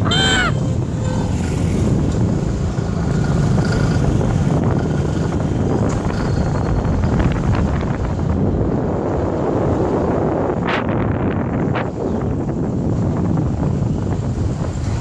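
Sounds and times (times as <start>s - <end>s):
vehicle road and engine rumble: 0.0s - 15.0s
wind buffeting microphone: 0.0s - 15.0s.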